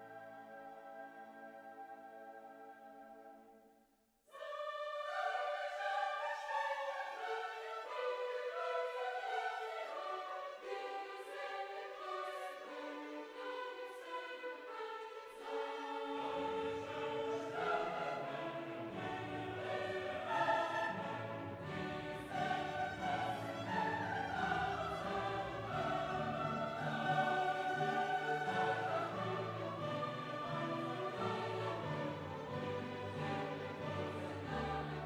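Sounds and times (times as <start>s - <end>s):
choir singing: 0.0s - 3.6s, 4.3s - 35.0s.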